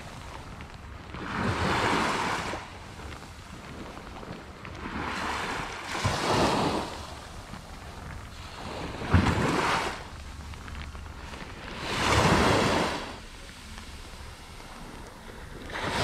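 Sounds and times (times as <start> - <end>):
waves breaking on beach: 0.0 - 16.0
wind buffeting microphone: 0.0 - 16.0.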